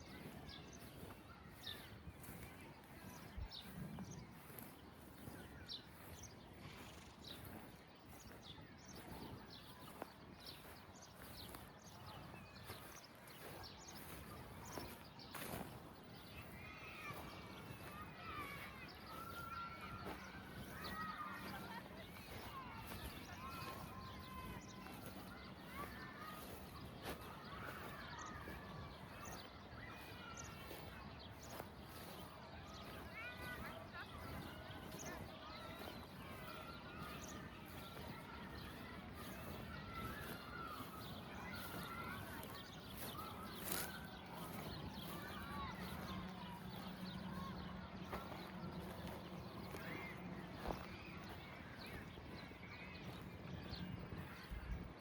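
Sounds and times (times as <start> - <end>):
birds chirping faintly: 0.0 - 55.0.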